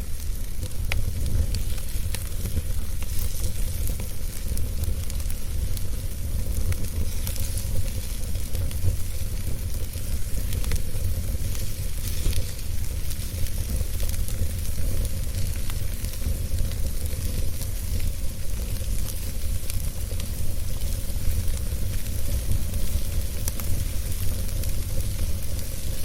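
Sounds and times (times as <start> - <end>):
fire hissing: 0.0 - 26.0
wood fire crackling and popping: 0.0 - 26.0.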